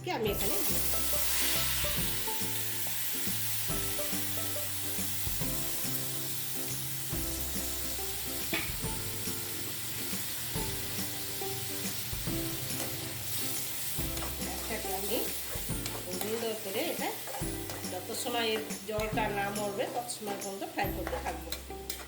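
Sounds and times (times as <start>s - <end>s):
soft background music: 0.0s - 22.0s
paste sizzling in hot oil: 0.3s - 22.0s.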